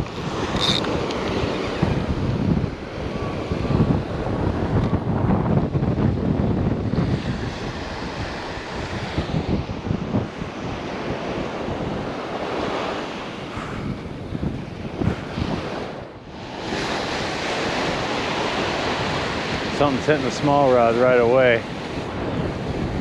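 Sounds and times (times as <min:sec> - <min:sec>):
ocean surf washing: 0:00.0 - 0:23.0
wind buffeting microphone: 0:00.0 - 0:23.0.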